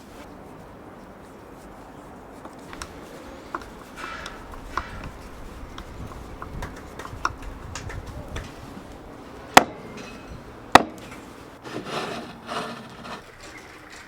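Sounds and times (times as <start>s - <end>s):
scraping and rubbing: 0.0s - 14.0s.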